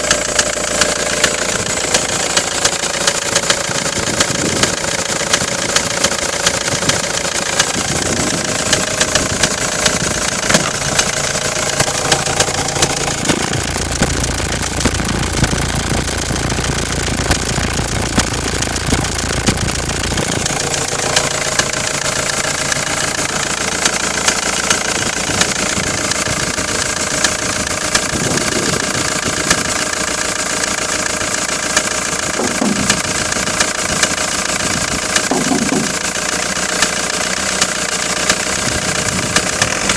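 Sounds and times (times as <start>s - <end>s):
deep rumble: 0.0s - 30.5s, 32.1s - 36.4s, 38.5s - 39.9s
diesel engine running: 0.0s - 39.9s
sharp engine knocks: 0.0s - 39.9s.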